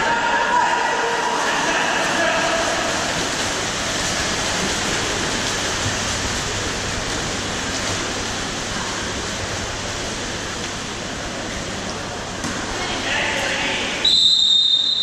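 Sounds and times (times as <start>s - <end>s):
water splashing from swimmers: 0.0s - 15.0s.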